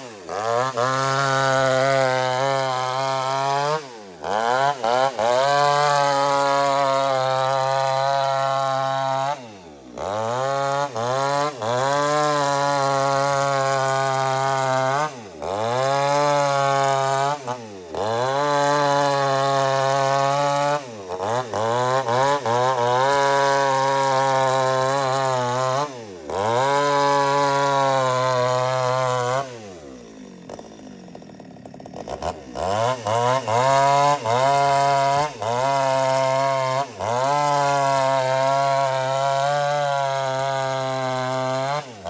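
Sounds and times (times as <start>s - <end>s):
chainsaw cutting log: 0.0s - 42.0s.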